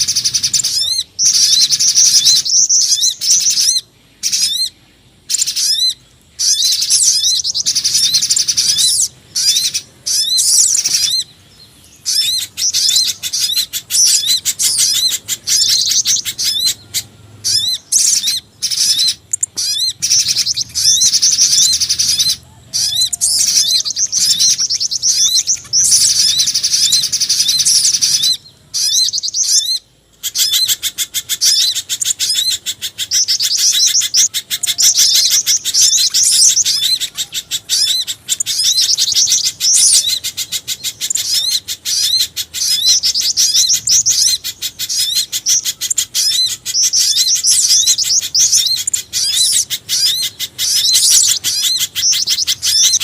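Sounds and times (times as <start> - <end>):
high-pitched bird chirps and trills: 0.0 - 53.0.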